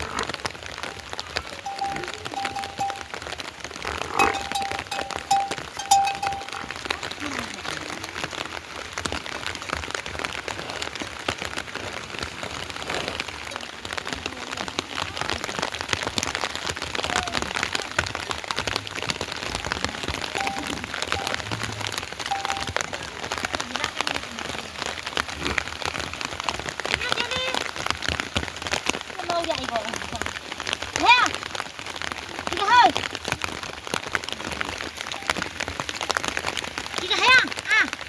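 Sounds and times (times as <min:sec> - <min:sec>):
rain pattering: 0:00.0 - 0:38.0.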